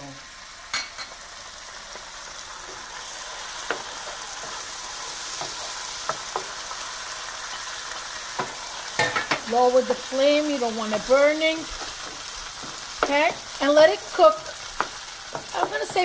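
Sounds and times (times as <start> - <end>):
sauce sizzling in a pan: 0.0 - 16.0.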